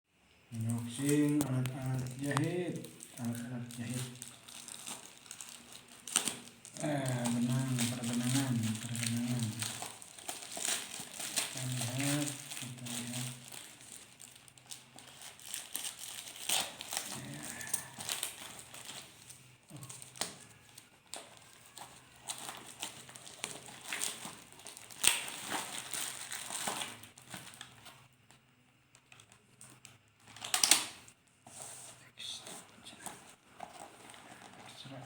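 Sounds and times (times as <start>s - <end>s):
loud packaging crackle: 0.5s - 28.4s, 29.0s - 31.2s
packaging crinkling and rustling: 0.5s - 31.8s, 32.4s - 35.0s.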